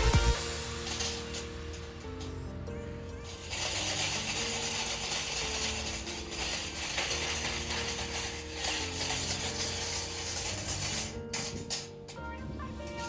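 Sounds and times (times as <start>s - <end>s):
background music: 0.0s - 13.0s
rapid crackling rattle: 0.4s - 13.0s.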